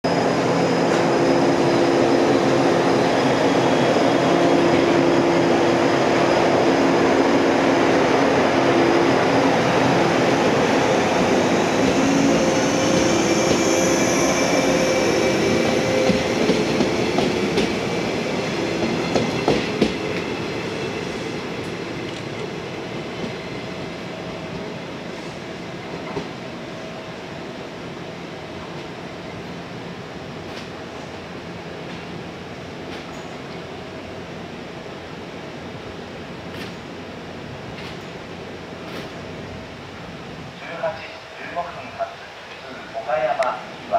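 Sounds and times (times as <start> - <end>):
train running past: 0.1 - 43.9.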